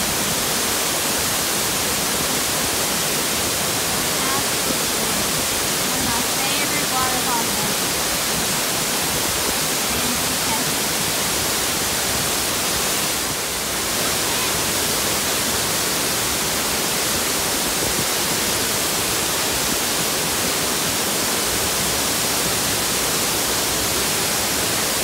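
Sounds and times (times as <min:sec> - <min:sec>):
waterfall rushing over rock: 0:00.0 - 0:25.0.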